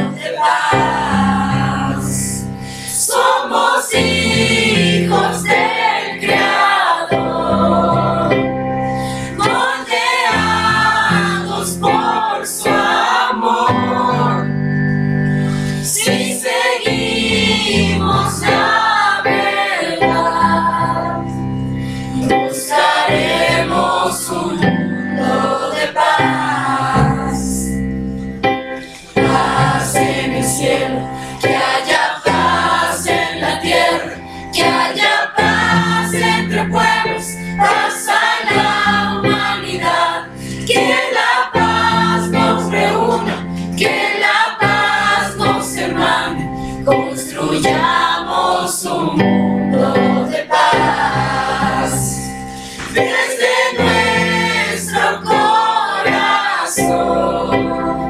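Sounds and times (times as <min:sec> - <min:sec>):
choir singing: 0:00.0 - 0:27.8, 0:28.5 - 0:58.0
electronic keyboard chords: 0:00.0 - 0:58.0.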